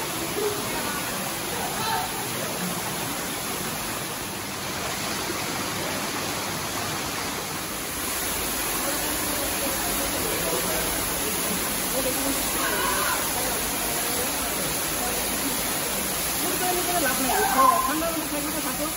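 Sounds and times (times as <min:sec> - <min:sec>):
creek running over pebbles: 0:00.0 - 0:18.9
waterfall rushing: 0:00.0 - 0:18.9.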